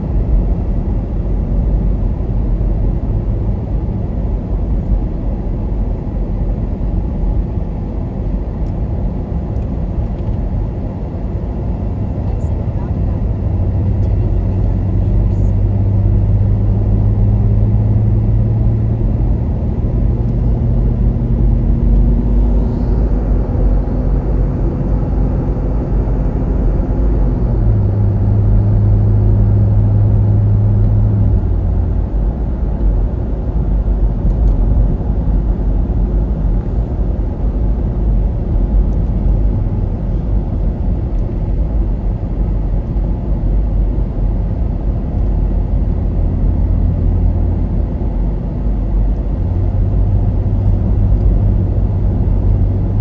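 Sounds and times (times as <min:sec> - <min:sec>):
car engine drone: 0:00.0 - 0:53.0.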